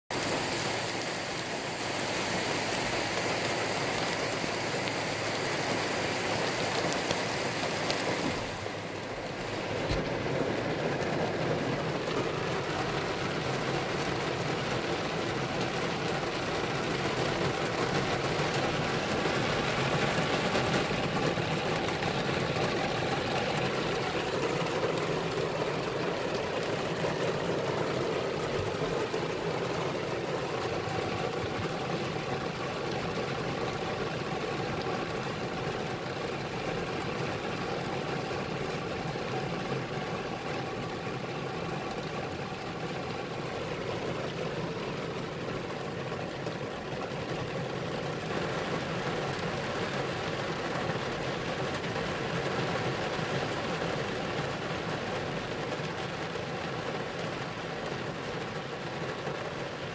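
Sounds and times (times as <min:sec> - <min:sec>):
heavy rain pouring: 0:00.1 - 0:59.9.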